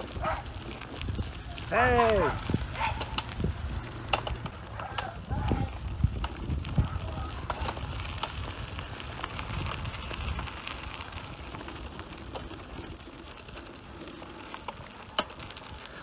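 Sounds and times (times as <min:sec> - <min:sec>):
bicycle freewheel ticking: 0:00.0 - 0:16.0
tyres rolling on gravel: 0:00.0 - 0:16.0.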